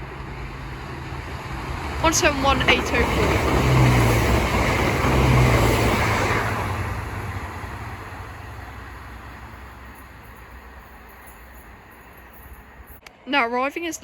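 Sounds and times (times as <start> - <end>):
wheel and rail noise: 0.0 - 13.3
train engine hum: 0.0 - 14.0.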